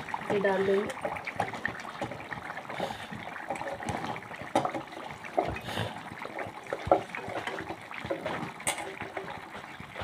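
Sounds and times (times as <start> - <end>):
carrots sizzling in hot oil: 0.0 - 10.0
oil crackles and pops: 0.0 - 10.0.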